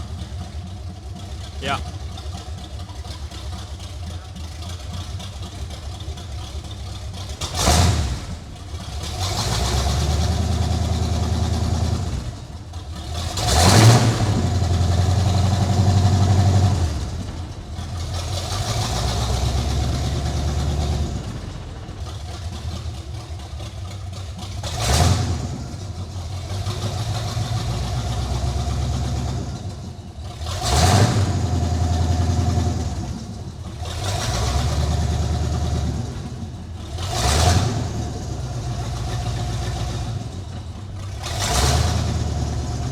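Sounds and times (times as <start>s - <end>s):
car engine revving: 6.0s - 42.9s.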